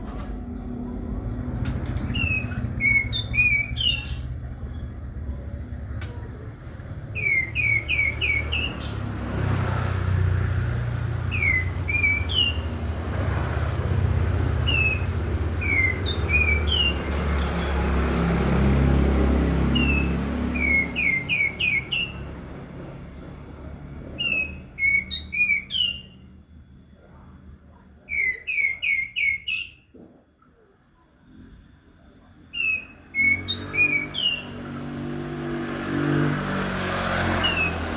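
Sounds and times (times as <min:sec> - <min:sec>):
songbird chirping: 0:00.1 - 0:13.3, 0:14.0 - 0:37.9.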